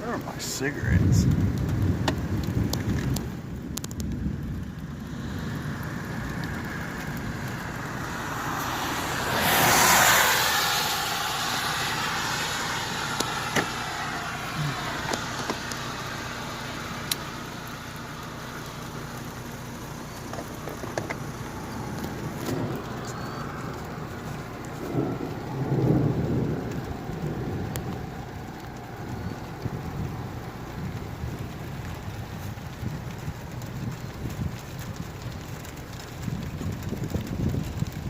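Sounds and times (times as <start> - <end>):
car tyres hissing on wet road: 0.0 - 38.0.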